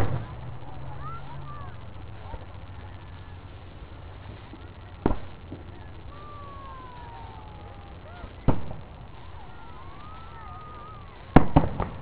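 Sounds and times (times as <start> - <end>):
firework shells bursting: 0.0 - 12.0
wavering whistle-like tones: 0.2 - 11.6.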